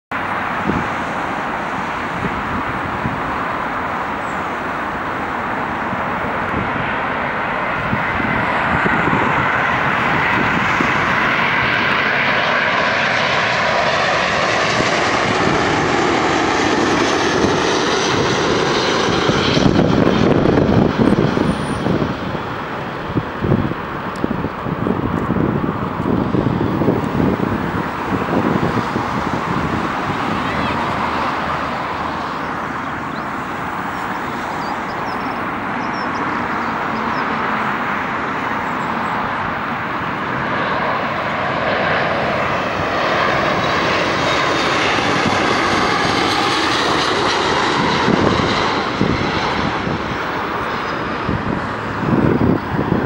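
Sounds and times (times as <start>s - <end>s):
jet airliner flying overhead: 0.1s - 53.0s.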